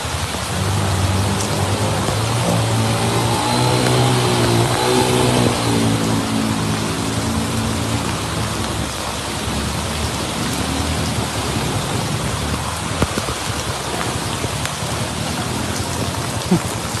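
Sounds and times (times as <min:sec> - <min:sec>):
heavy rain on water: 0:00.0 - 0:17.0.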